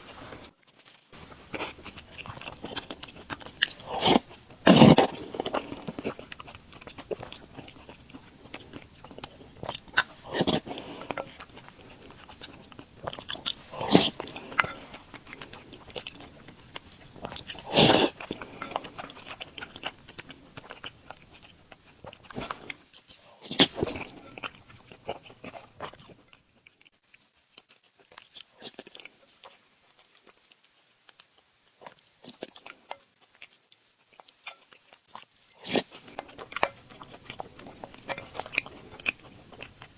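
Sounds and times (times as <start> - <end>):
wet chewing and mouth sounds: 0.0 - 39.9.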